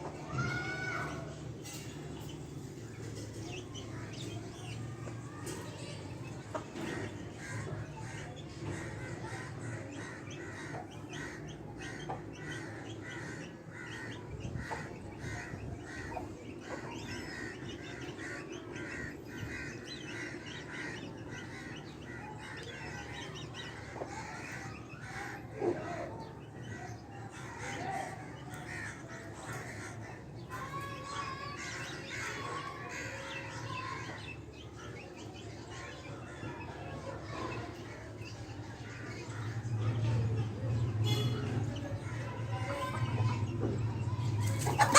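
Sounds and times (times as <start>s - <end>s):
birds chirping in chorus: 0.2s - 43.5s.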